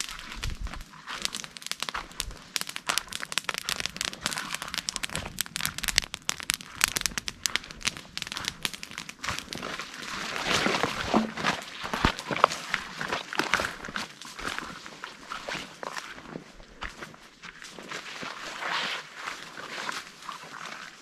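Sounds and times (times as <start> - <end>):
close crinkling and rustling: 0.0 - 21.0.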